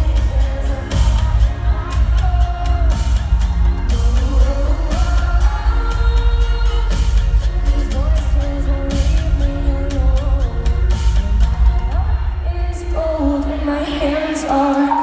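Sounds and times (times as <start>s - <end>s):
female singer: 0.0s - 15.0s.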